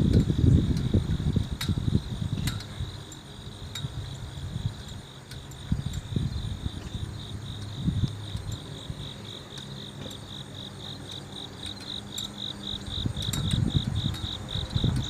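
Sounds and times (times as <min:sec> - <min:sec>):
wind rumble on microphone: 0:00.0 - 0:10.9, 0:11.6 - 0:15.0
insect chirping: 0:00.0 - 0:15.0.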